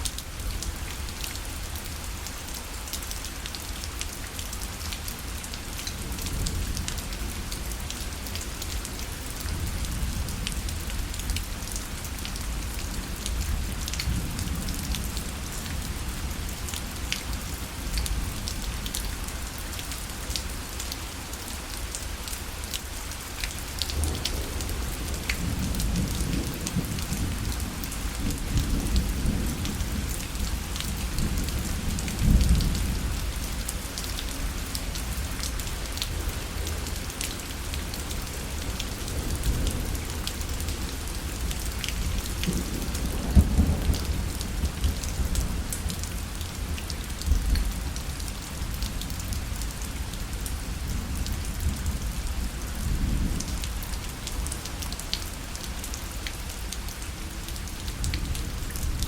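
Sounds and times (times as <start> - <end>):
rain on a parasol: 0.0 - 59.0.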